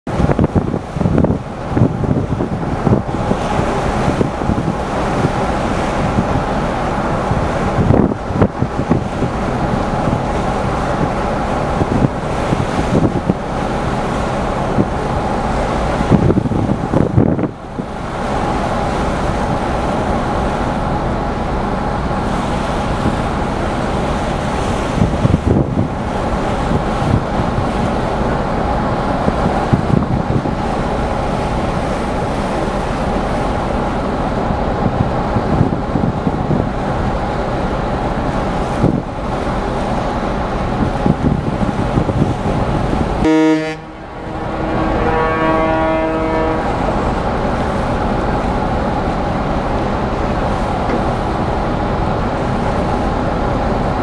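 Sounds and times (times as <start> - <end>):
ship engines rumbling: 0.1 - 54.0
wind buffeting microphone: 0.1 - 54.0.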